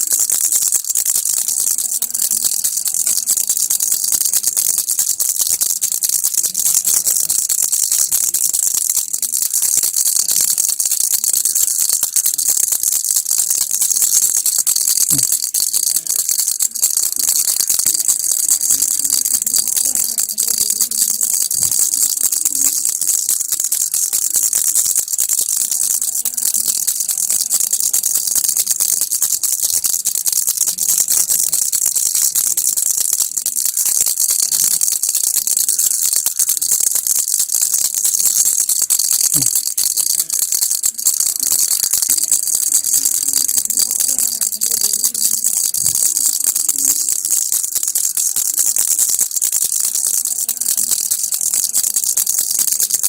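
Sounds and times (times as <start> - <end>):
baby rattle shaking: 0.0 - 53.0.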